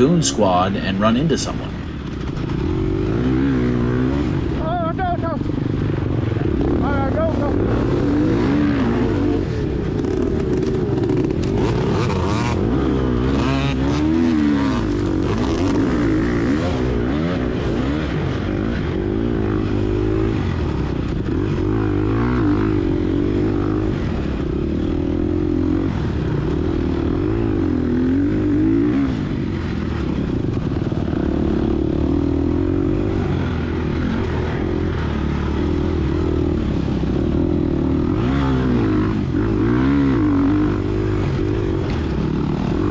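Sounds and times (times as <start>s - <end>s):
dirt bike engine revving: 0.0s - 4.8s, 5.4s - 42.9s.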